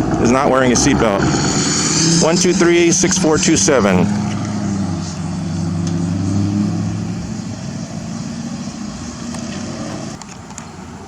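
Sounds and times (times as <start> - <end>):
car engine driving past: 0.0 - 10.2.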